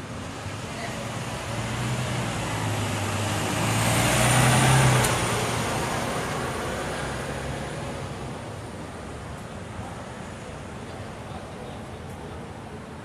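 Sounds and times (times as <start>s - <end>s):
tyre and road noise: 0.0s - 11.1s
bus engine drone: 0.0s - 13.0s.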